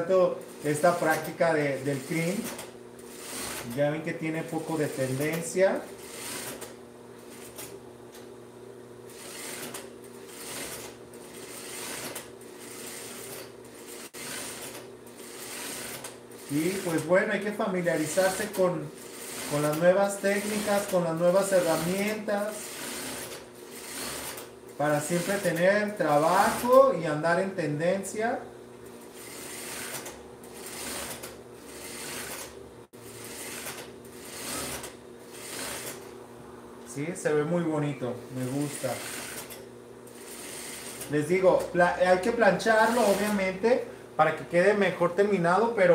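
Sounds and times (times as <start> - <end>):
steady low hum: 0.0 - 45.9
sewing machine stitching: 0.4 - 3.9, 4.5 - 7.8, 9.1 - 26.9, 29.0 - 36.1, 38.3 - 43.5.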